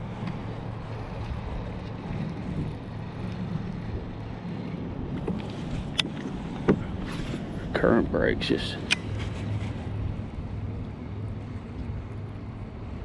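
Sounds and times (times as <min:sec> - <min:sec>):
low engine hum: 0:00.0 - 0:13.0
water noise: 0:00.0 - 0:13.0.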